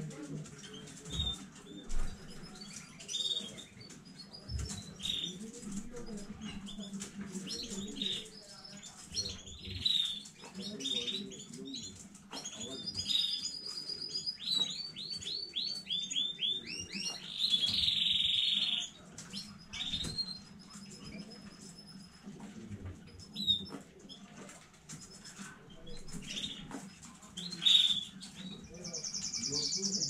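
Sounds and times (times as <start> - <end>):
canary singing: 0.5 - 22.4, 23.1 - 30.0.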